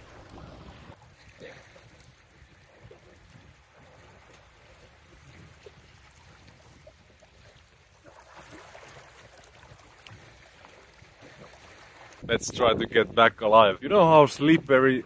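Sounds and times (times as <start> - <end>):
small waves lapping on rocks: 0.0 - 12.3.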